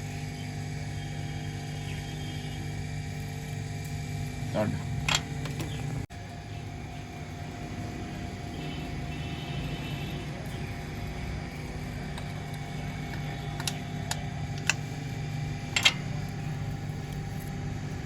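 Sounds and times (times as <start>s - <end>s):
car engine idling: 0.8s - 18.0s.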